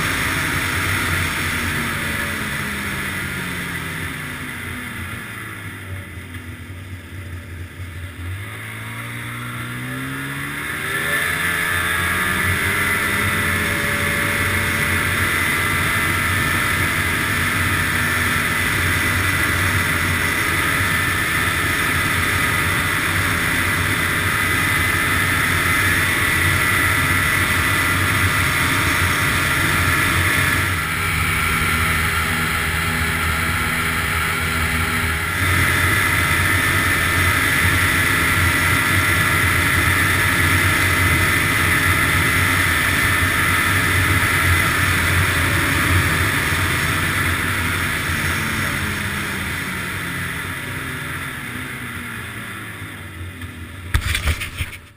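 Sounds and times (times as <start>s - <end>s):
snowmobile engine running: 0.0s - 54.9s
snowmobile track noise: 0.0s - 54.9s.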